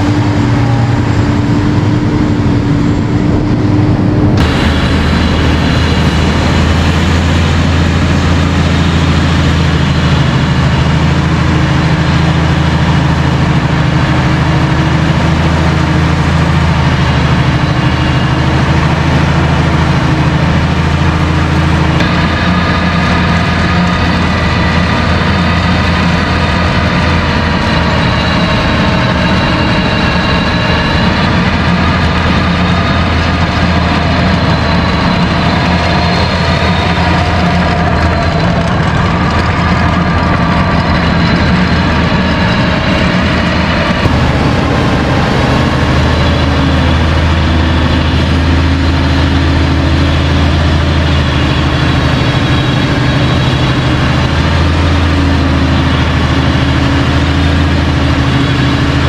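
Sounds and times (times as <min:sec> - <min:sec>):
high whine: 0:00.0 - 0:59.0
tractor diesel engine under load: 0:00.0 - 0:59.0.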